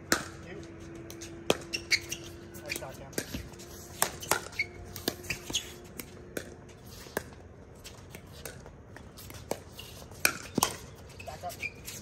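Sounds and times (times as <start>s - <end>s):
ball bouncing on hard court: 0.1s - 0.4s, 1.1s - 10.9s.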